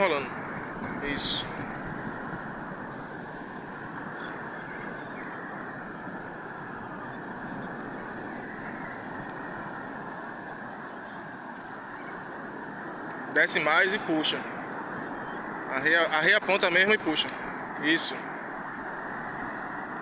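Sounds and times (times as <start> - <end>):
strong wind: 0.0 - 20.0.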